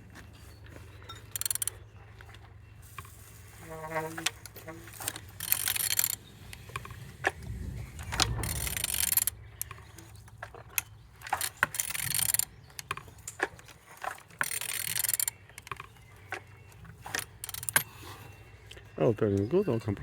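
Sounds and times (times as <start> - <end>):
metallic clicks and scrapes: 0.2 - 19.5.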